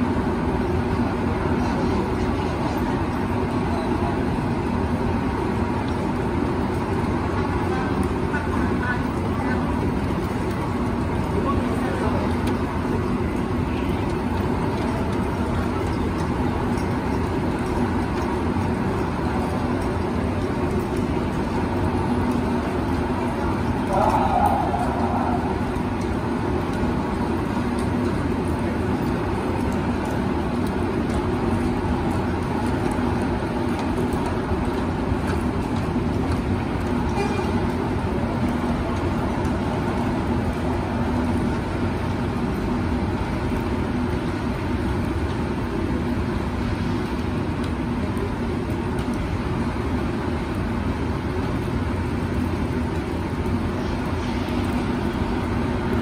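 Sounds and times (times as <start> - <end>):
city street background noise: 0.0 - 56.0.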